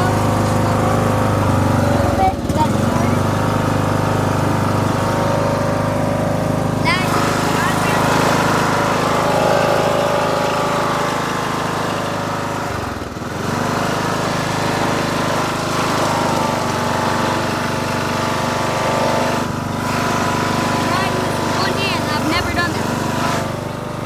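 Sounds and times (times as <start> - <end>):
lawn tractor engine running: 0.0 - 24.0.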